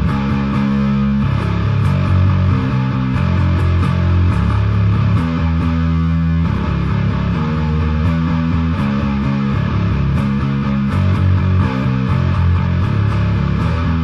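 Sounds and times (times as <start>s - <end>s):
bass guitar playing: 0.0s - 14.0s
instrumental rock music: 0.0s - 14.0s.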